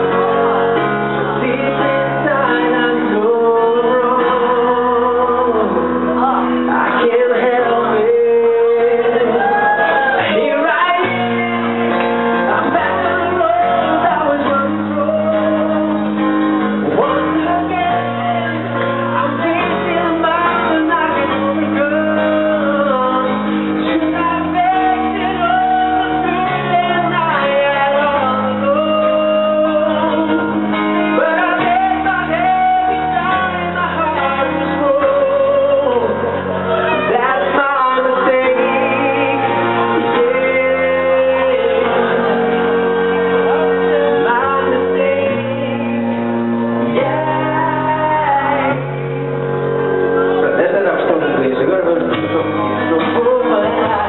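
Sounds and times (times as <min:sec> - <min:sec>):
man singing into microphone: 0:00.0 - 0:49.2, 0:50.1 - 0:54.0
guitar: 0:00.0 - 0:54.0
held chords accompaniment: 0:00.0 - 0:54.0.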